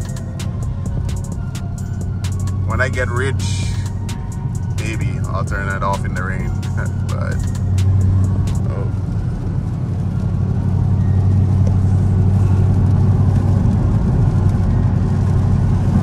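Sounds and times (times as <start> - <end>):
car engine hum in cabin: 0.0 - 16.0
tyre and road noise: 0.0 - 16.0.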